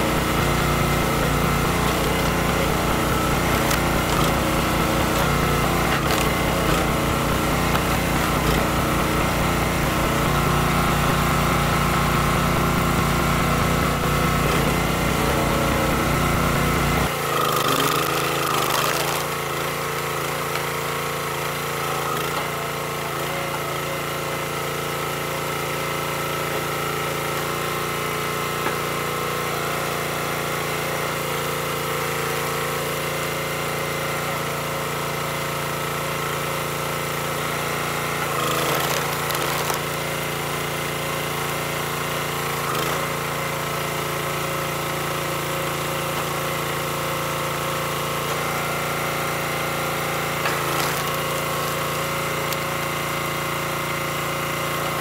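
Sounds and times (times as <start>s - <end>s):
small gas engine running: 0.0s - 55.0s.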